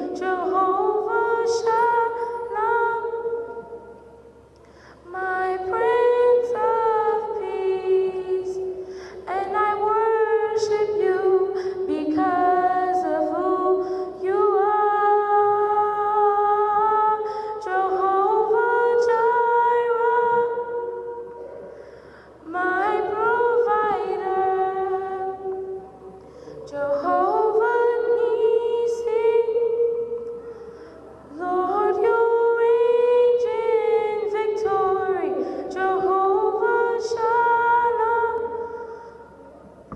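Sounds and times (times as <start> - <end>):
girl singing unaccompanied: 0.0 - 4.4, 5.0 - 21.5, 22.4 - 39.1.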